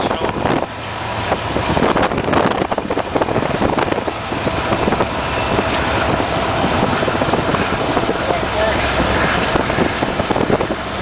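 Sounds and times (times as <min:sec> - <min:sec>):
diesel locomotives running: 0:00.0 - 0:11.0
road noise rumble: 0:00.0 - 0:11.0
wind buffeting microphone: 0:00.0 - 0:11.0.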